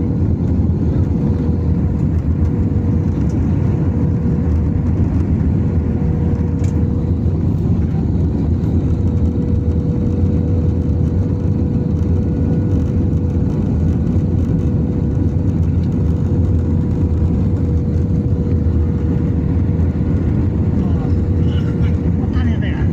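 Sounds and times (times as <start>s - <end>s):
constant cabin hum: 0.0s - 22.9s
jet engine and airflow rumble: 0.0s - 22.9s.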